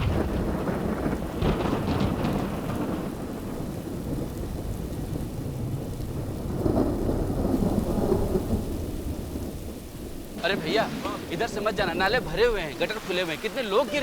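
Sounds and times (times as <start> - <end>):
deep rolling thunder: 0.0 - 13.5
heavy rain pouring: 0.0 - 14.0.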